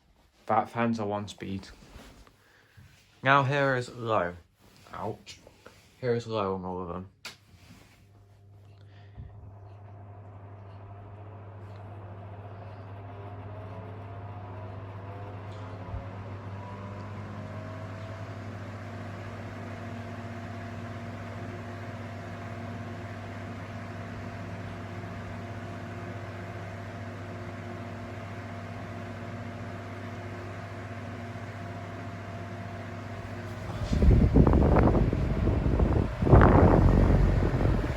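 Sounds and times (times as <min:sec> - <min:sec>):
ceiling fans humming and whirring: 0:00.0 - 0:37.9
faint fan whine: 0:00.0 - 0:37.9.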